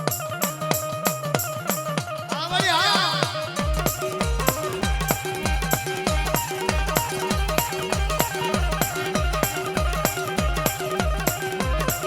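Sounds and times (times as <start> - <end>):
steady drum beat: 0.0 - 12.0.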